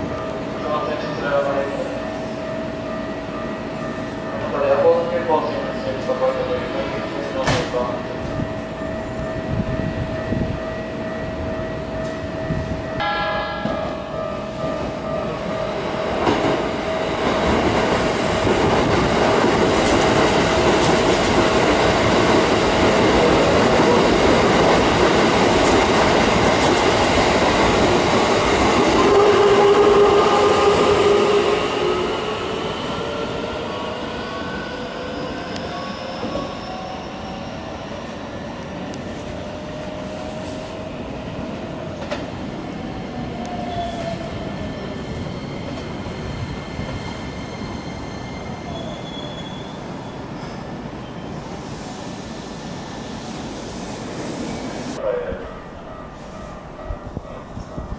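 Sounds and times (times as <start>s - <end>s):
train wheels on rails: 6.3s - 55.0s.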